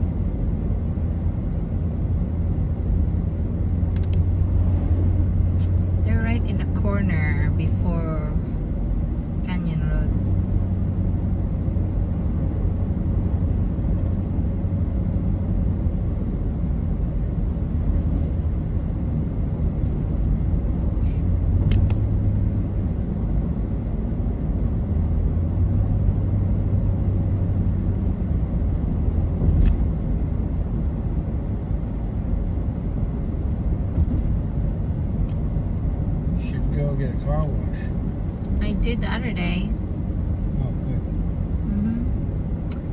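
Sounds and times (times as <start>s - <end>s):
car engine and road hum: 0.0s - 42.9s.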